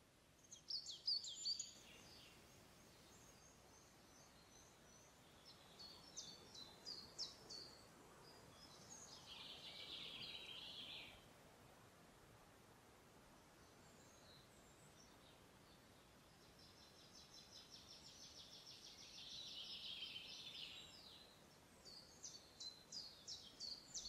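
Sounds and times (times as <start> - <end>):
songbirds singing: 0.4 - 11.4, 13.2 - 24.0.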